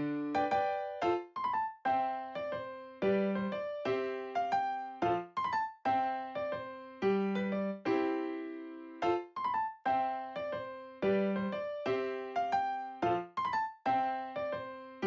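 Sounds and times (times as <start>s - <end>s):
light piano melody: 0.0s - 15.0s.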